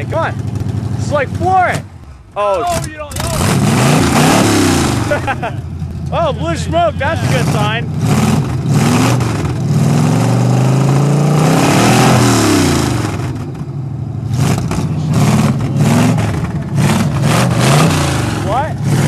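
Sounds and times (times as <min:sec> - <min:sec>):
car engine revving hard: 0:02.6 - 0:19.0.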